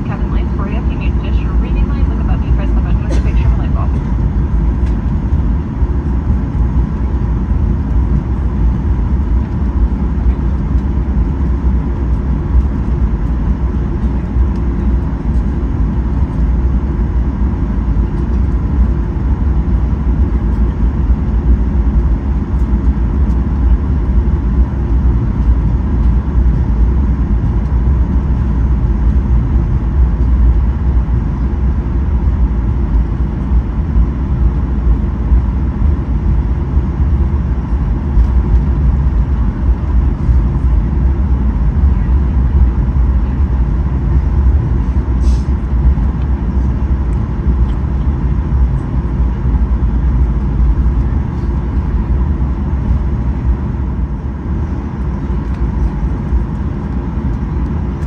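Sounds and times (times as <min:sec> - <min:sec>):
faint steady whine: 0:00.0 - 0:58.0
jet engine cabin rumble: 0:00.0 - 0:58.0.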